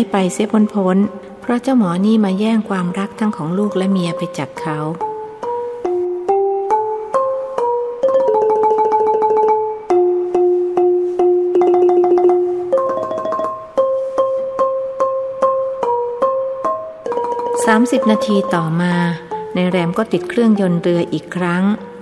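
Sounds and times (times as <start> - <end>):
keyboard melody with re-struck notes: 0.0 - 22.0.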